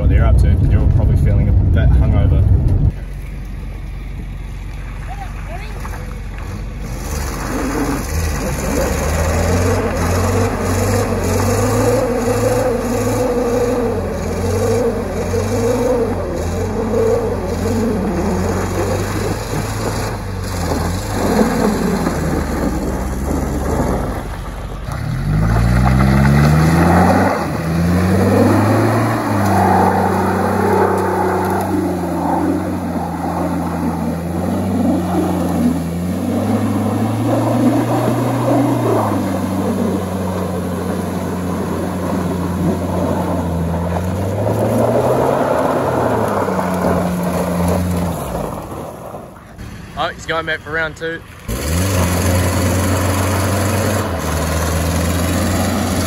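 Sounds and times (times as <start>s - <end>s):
suv engines revving: 0.0s - 56.0s.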